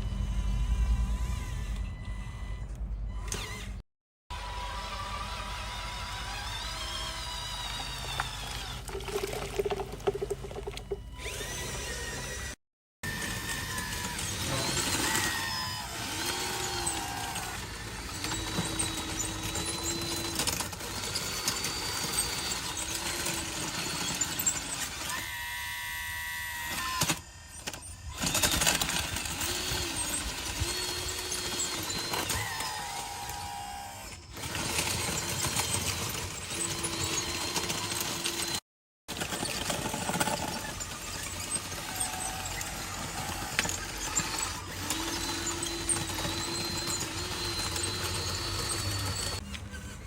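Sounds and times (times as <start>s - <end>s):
steady mechanical hum: 0.0s - 38.6s, 39.2s - 50.0s
electric motors whining: 0.0s - 50.0s.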